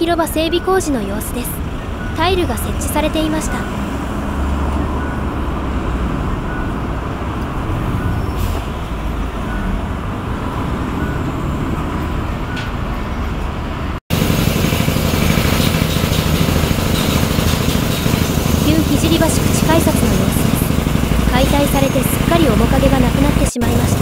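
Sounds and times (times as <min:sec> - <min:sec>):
city road traffic rumble: 0:00.0 - 0:24.0.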